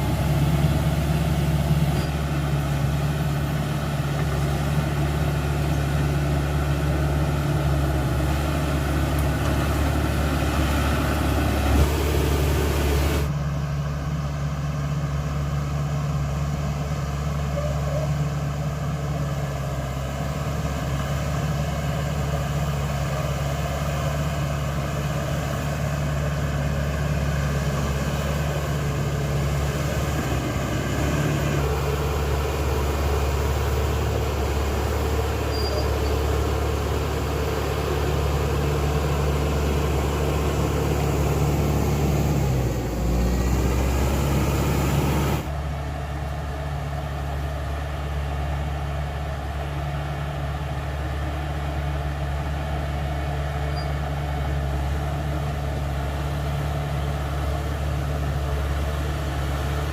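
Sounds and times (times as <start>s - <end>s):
bulldozer diesel engine running: 0.0s - 59.9s
engine hiss and rattle: 0.0s - 59.9s.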